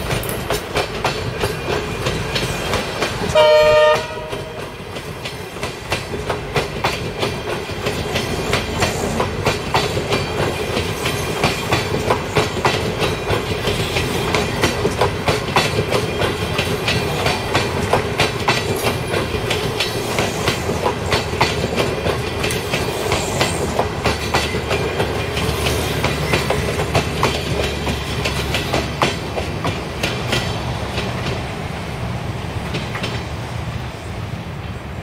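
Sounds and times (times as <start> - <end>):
train wheels clacking over joints: 0.0 - 33.6
train rumble: 0.0 - 35.0.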